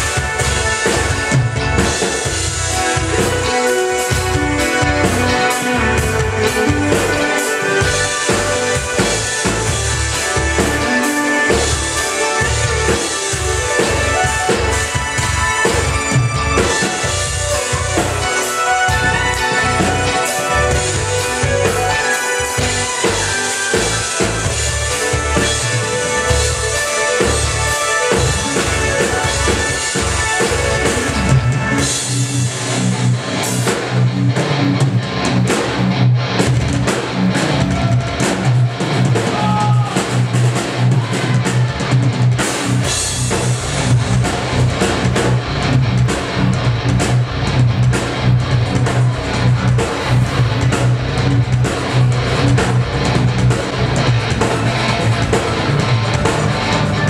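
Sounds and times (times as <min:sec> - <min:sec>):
low bass line: 0:00.0 - 0:18.3, 0:18.9 - 0:22.0, 0:22.6 - 0:57.0
metal band playing live: 0:00.0 - 0:57.0.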